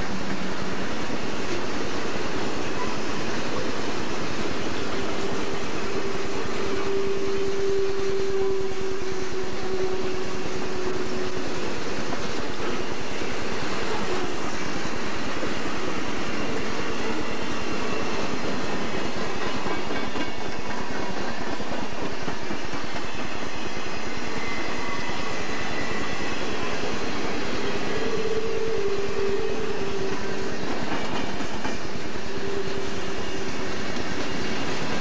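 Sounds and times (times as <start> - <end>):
steel wheels on rails: 0.0 - 35.0.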